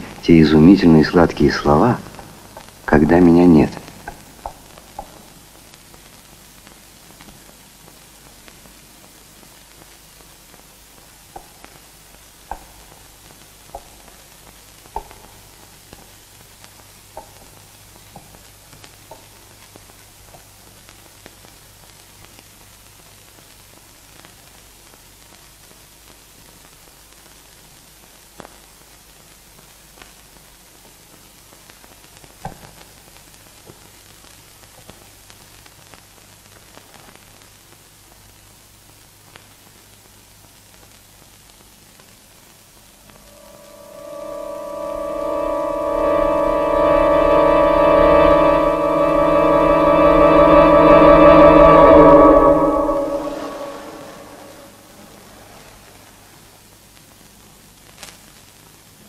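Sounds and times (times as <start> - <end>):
film soundtrack hiss and hum: 0.0 - 59.0.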